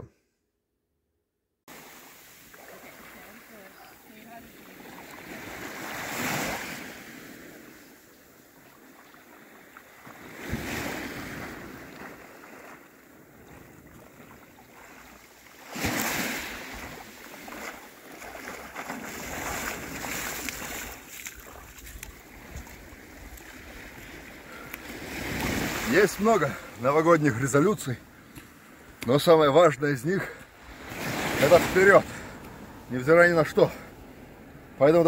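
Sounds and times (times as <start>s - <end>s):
small waves washing onto beach: 1.7s - 35.0s.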